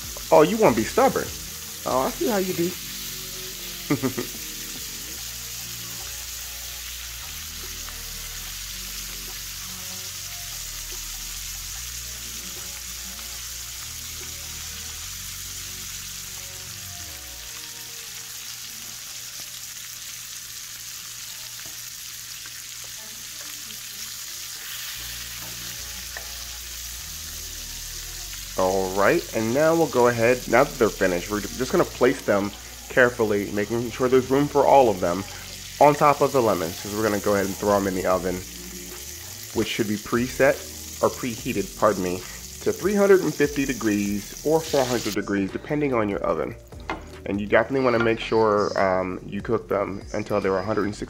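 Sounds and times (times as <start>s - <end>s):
chicken sizzling in hot oil: 0.0s - 45.2s.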